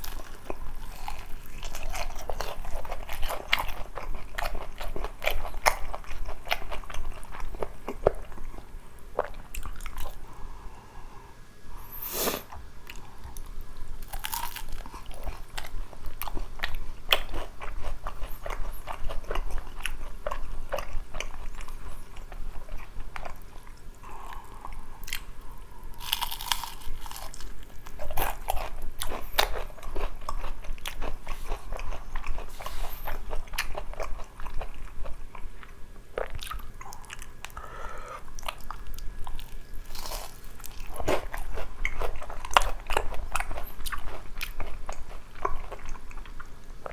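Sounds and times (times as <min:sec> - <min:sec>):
crunching and chewing fried chicken: 0:00.0 - 0:10.4, 0:11.9 - 0:46.9.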